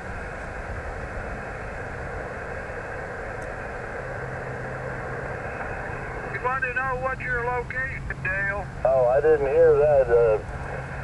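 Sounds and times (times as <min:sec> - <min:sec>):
faint low hum: 0:00.0 - 0:11.0
radio static hiss: 0:00.0 - 0:11.0.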